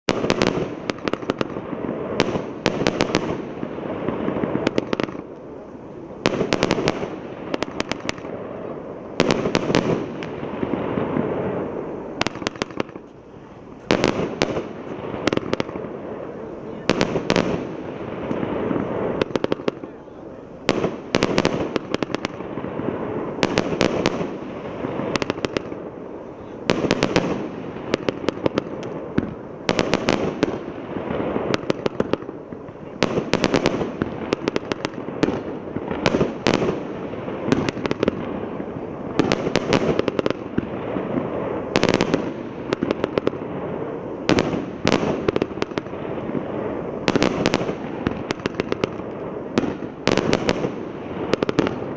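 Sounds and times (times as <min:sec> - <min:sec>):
fireworks bangs: 0:00.0 - 0:51.9
fireworks rumble: 0:00.0 - 0:51.9.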